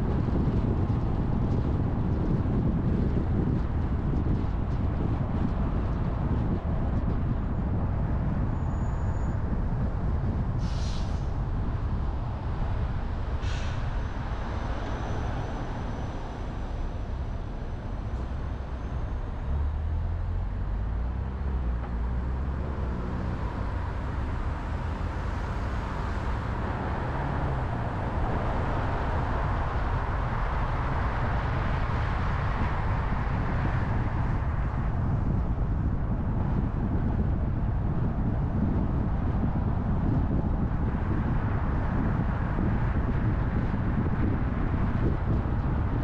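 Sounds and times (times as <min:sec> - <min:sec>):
deep low rumble: 0:00.0 - 0:46.0
rumble of tyres and engines: 0:00.0 - 0:46.0.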